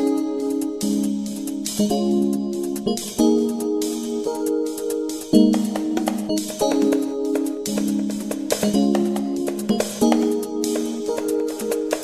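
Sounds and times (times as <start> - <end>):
light percussion: 0.0 - 12.0.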